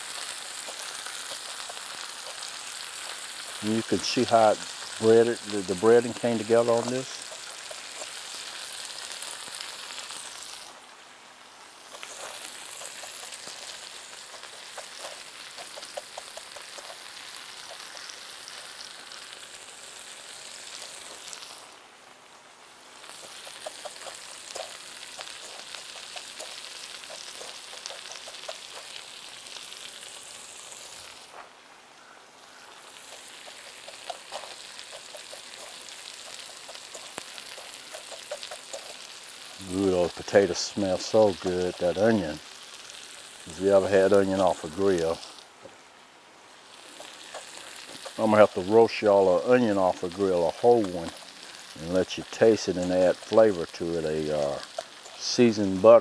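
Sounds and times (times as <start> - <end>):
oil popping: 0.0 - 10.8, 11.5 - 21.8, 22.8 - 31.4, 32.6 - 45.8, 46.4 - 56.0
food sizzling on griddle: 0.0 - 31.6, 32.4 - 56.0.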